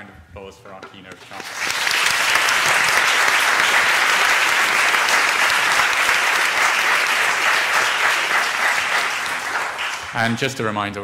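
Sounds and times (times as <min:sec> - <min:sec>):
audience applauding: 0:01.3 - 0:10.6.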